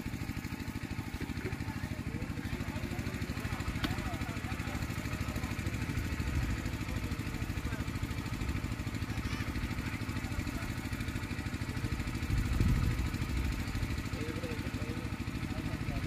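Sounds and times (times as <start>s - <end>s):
small engine idling: 0.0s - 16.0s.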